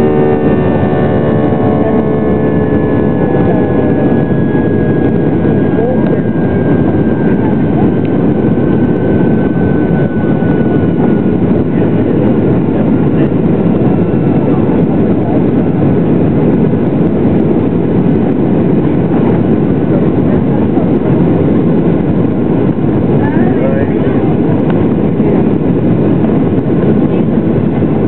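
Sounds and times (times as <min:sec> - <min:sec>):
jet engine roar in cabin: 0:00.0 - 0:28.0.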